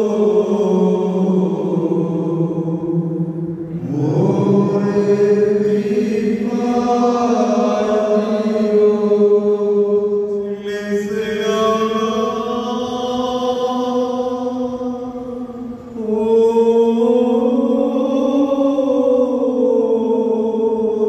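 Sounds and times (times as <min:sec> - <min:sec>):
man chanting a hymn: 0:00.0 - 0:21.0.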